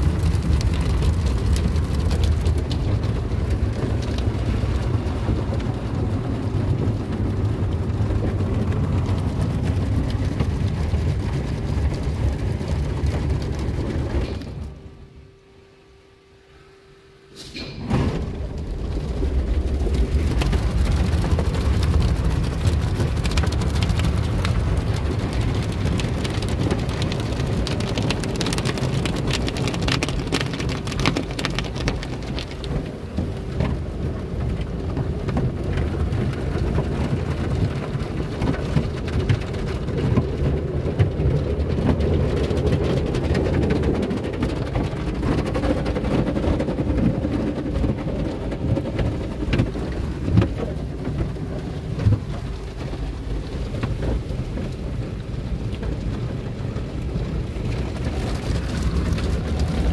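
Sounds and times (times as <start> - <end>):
water spray on car: 0.0 - 14.0, 18.5 - 59.9
deep rumble: 0.0 - 15.4, 17.6 - 59.9.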